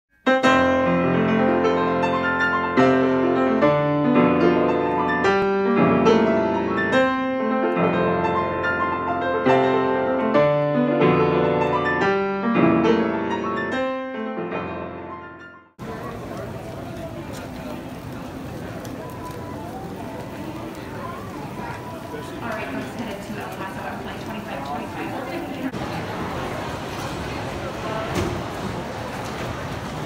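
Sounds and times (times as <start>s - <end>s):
piano chords: 0.1s - 28.0s.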